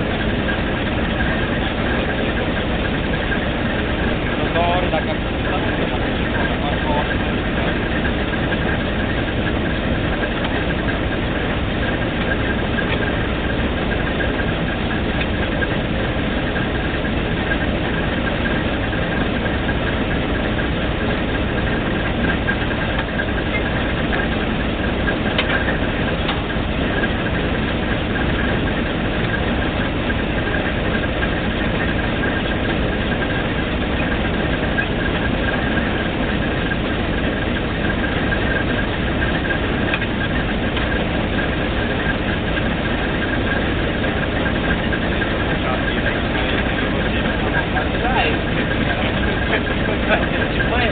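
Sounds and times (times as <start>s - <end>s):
constant high whine: 0.0s - 50.9s
drilling rig engine running: 0.0s - 50.9s.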